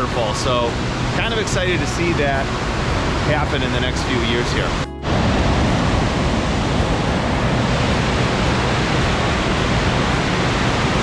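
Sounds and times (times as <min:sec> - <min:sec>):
river pouring over a dam: 0:00.0 - 0:11.0.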